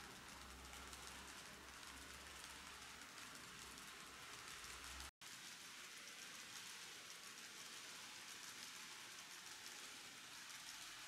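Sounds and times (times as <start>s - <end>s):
model train rattling on track: 0.0s - 11.0s.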